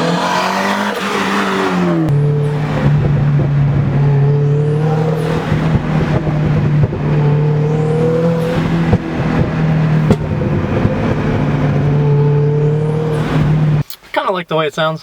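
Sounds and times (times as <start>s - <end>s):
turbocharged car engine under load: 0.0s - 13.9s.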